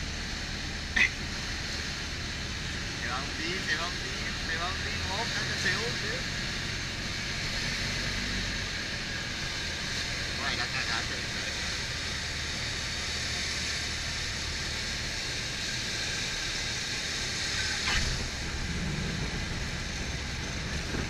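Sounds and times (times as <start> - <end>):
aircraft engine drone: 0.0 - 21.0
airflow rush: 0.0 - 21.0.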